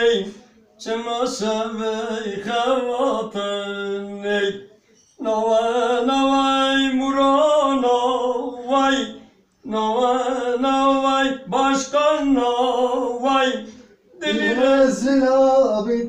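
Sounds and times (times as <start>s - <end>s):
man singing a cappella: 0.0s - 16.0s.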